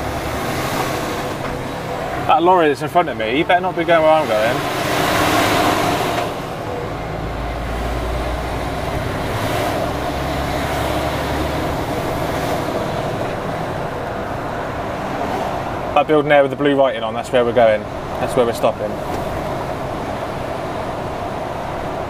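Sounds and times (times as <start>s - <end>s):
lorry engine and road noise: 0.0s - 22.0s
passing lorry rush: 0.0s - 22.0s.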